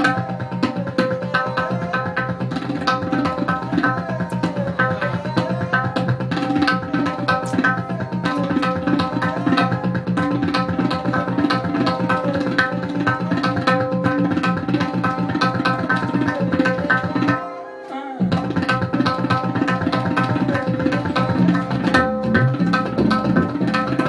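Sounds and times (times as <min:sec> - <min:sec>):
tabla drum strokes: 0:00.0 - 0:17.5, 0:18.2 - 0:24.0.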